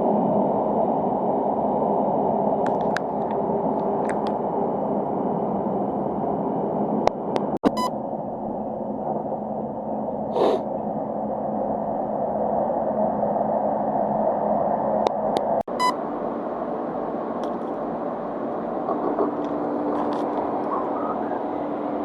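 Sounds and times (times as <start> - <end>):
train rumble inside carriage: 0.0 - 22.0.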